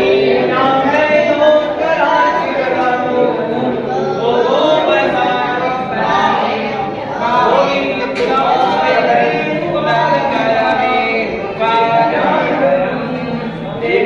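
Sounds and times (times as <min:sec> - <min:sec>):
group of voices singing: 0:00.0 - 0:14.0.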